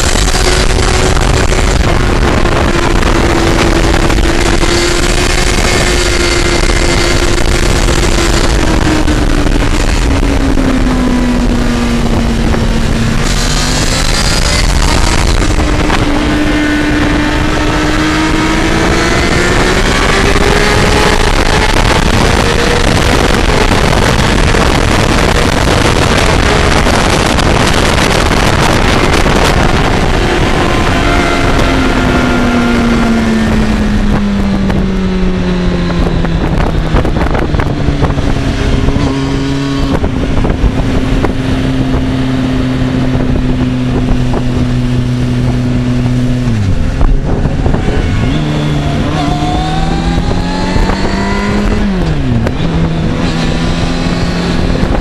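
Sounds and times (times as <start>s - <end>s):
motorcycle engine: 0.0s - 55.0s
wind rush: 0.0s - 55.0s.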